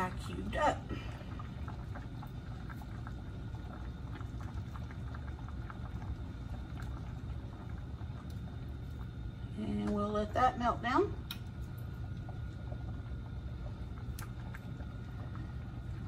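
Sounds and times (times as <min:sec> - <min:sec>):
soup boiling in a pot: 0:00.0 - 0:16.0.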